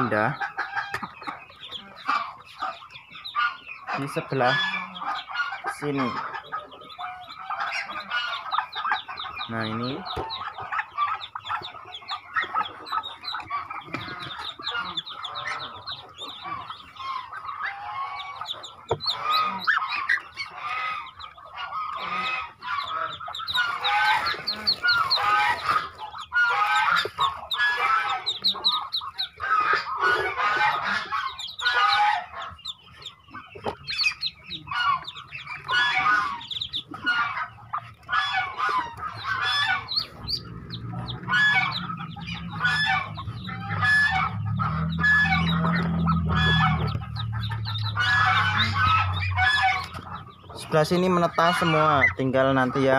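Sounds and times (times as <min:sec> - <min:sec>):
ducklings peeping: 0:00.0 - 0:52.9.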